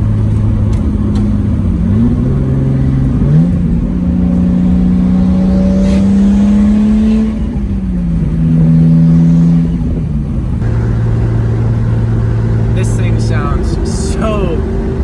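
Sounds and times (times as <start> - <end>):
car engine with loud exhaust: 0.0 - 15.0.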